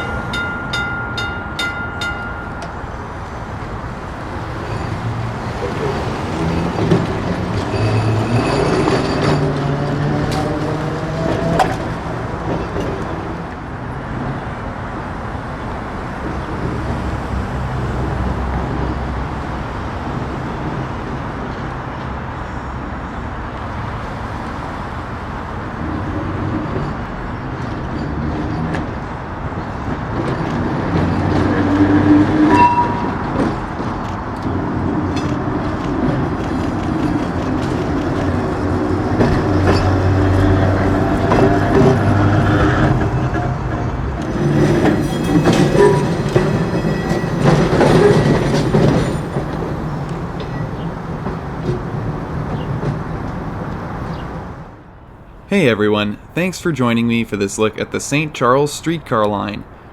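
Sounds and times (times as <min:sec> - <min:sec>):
streetcar rumbling on rails: 0:00.0 - 0:59.9.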